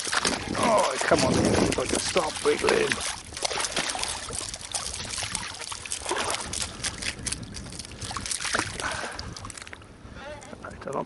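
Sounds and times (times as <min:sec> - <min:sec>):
water sloshing at shore: 0:00.0 - 0:11.0.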